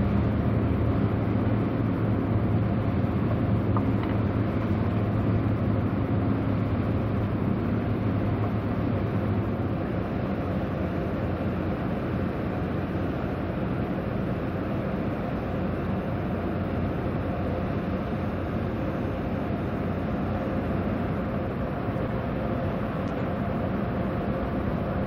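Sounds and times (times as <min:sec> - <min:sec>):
faint constant hum: 0:00.0 - 0:25.0
ships' diesel engines rumbling: 0:00.0 - 0:25.0.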